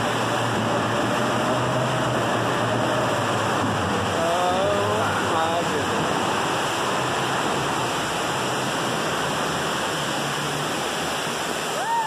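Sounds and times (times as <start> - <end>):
waterfall splashing into sea: 0.0 - 12.0.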